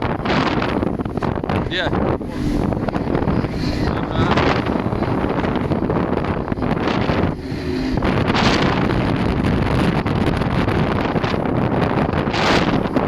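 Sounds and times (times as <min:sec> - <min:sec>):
boat and water rushing: 0:00.0 - 0:13.0
wind buffeting microphone: 0:00.0 - 0:13.0.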